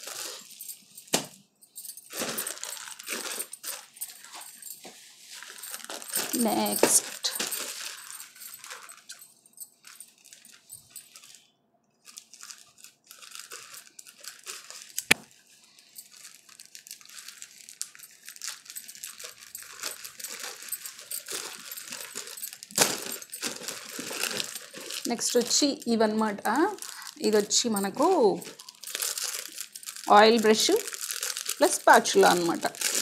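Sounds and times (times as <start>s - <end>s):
plastic bag crinkling: 0.0s - 1.1s, 1.8s - 33.0s.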